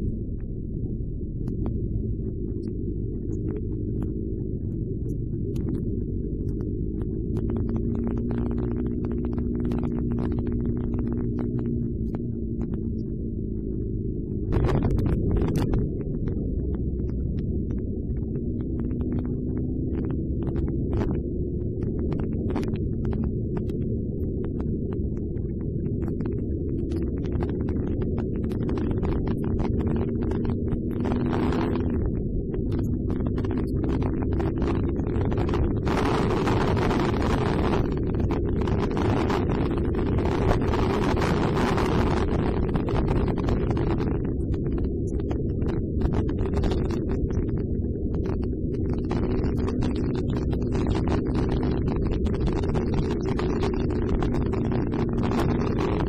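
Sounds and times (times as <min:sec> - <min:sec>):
wind noise: 0:00.0 - 0:56.0
faint clicks: 0:01.4 - 0:51.6.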